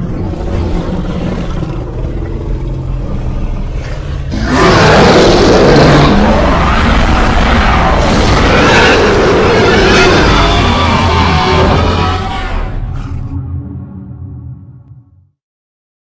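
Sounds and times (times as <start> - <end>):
loud creature roar: 0.0 - 13.5
low rumbling creature growl: 0.0 - 14.8.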